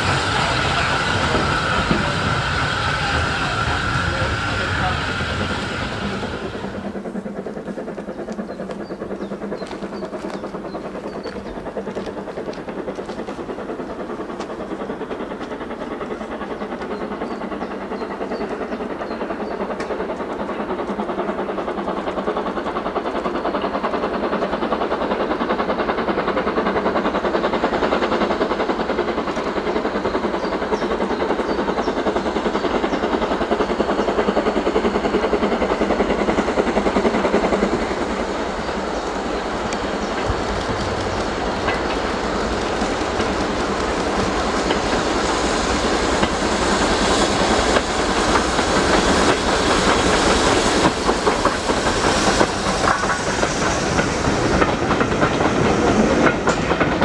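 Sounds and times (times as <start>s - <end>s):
steam locomotive working steam: 0.0s - 57.0s.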